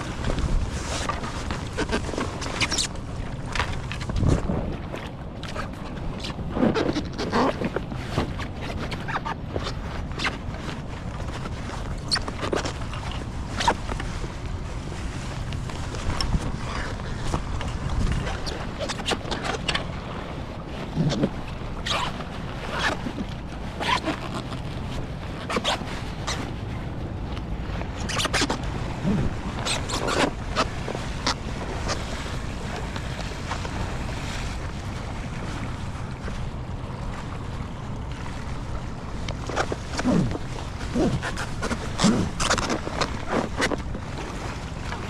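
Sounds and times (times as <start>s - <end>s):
paddle splashing in river water: 0.0s - 45.0s
wind on microphone: 0.0s - 45.0s.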